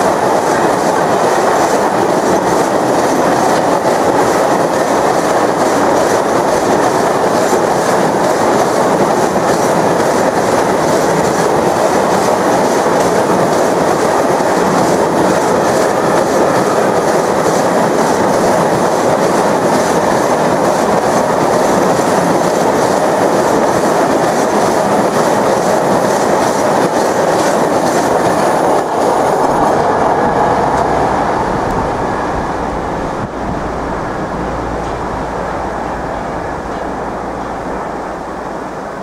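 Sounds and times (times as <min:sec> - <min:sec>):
freight train rolling past: 0:00.0 - 0:39.0
train wheels clicking over rails: 0:00.0 - 0:39.0.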